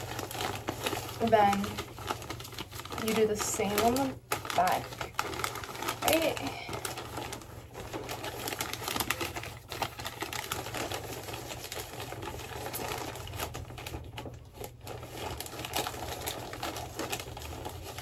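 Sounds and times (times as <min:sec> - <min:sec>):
wrapping paper crinkling: 0:00.0 - 0:18.0.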